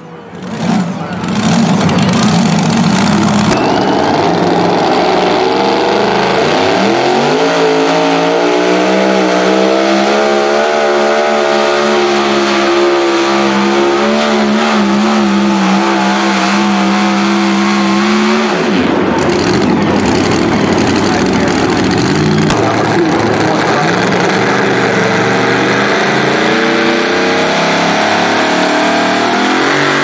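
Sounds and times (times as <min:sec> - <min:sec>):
truck engine revving high: 0:00.0 - 0:30.0.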